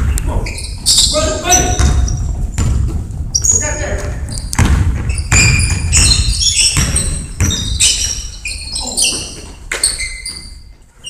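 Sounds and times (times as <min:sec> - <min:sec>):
sneakers squeaking on hardwood: 0:00.0 - 0:11.0
basketball bouncing: 0:00.8 - 0:10.5.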